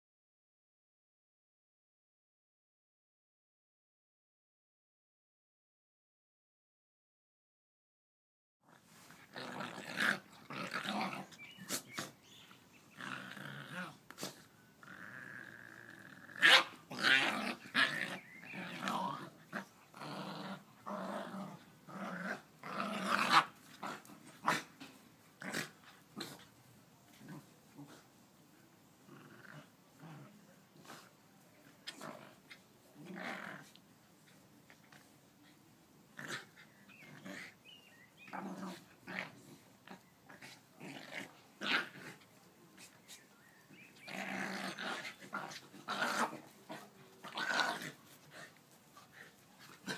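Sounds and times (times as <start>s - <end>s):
dogs growling and snarling: 8.7s - 28.1s, 29.0s - 49.9s.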